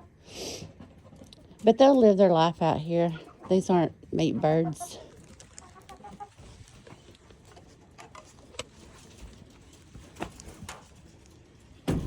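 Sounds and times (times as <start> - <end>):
hens tapping and rustling: 0.0 - 12.0.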